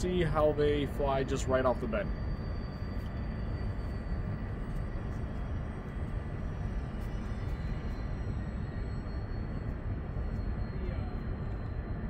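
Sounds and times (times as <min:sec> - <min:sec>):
faint high hums: 0:00.0 - 0:12.0
low rumble and hiss: 0:00.0 - 0:12.0.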